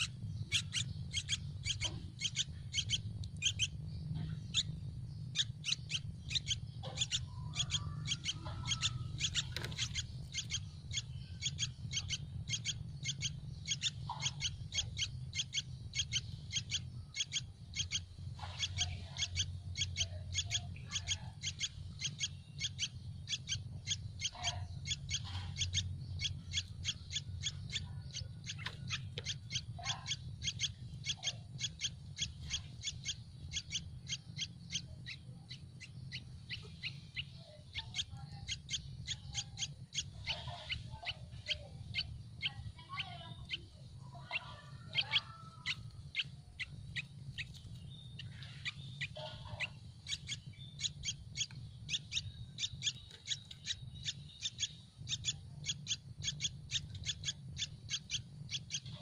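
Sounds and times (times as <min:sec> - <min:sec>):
lower bird calls: 0:00.0 - 0:59.0
nestlings begging chirps: 0:00.0 - 0:59.0
steady low hum: 0:00.0 - 0:59.0.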